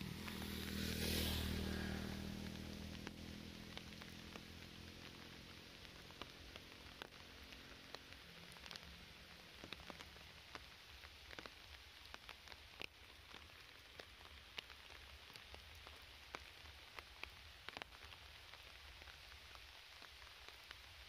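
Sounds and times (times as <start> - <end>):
faint steady rain: 0.0 - 21.0.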